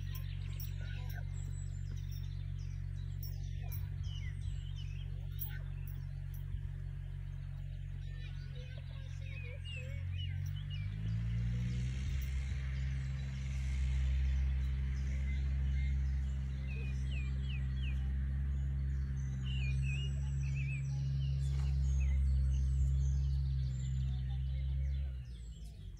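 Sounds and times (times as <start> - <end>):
loud low hum: 0.0 - 25.9
small birds chirping: 0.0 - 25.9.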